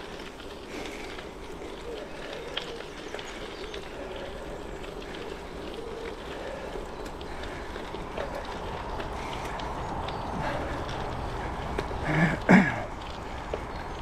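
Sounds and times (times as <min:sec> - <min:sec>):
bike tyres rolling on gravel: 0:00.0 - 0:14.0
small clicks and ticks: 0:00.0 - 0:14.0.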